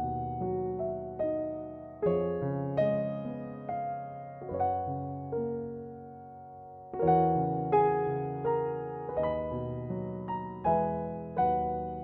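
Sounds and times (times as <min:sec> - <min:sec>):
slow soft piano chords: 0:00.0 - 0:12.0.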